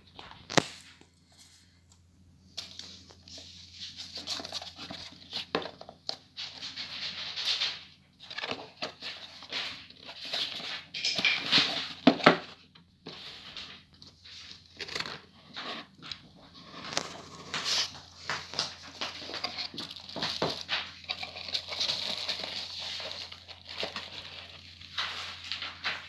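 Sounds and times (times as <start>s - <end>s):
cardboard scraping and rubbing: 3.2s - 10.9s, 11.5s - 26.0s.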